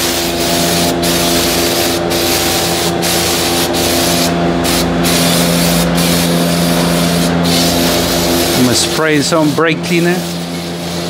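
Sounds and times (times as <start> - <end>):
aerosol spray hissing: 0.0 - 11.0
steady mechanical hum: 0.0 - 11.0.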